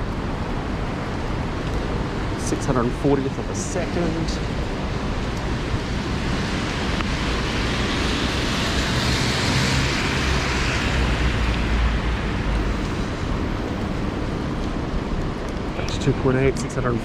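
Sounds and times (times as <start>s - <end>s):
heavy rain pouring: 0.0s - 17.0s
traffic on wet road: 0.0s - 17.0s.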